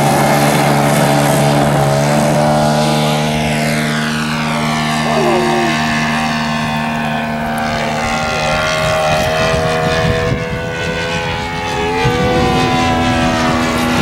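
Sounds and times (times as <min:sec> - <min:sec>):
model plane engine and propeller droning: 0:00.0 - 0:14.0.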